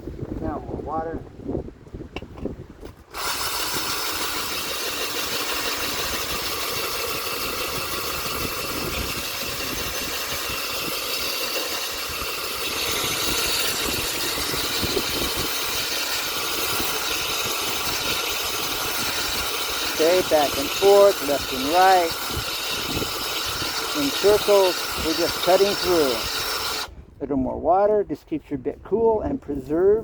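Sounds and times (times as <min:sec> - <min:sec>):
drill grinding into wet tile: 0:02.9 - 0:26.9.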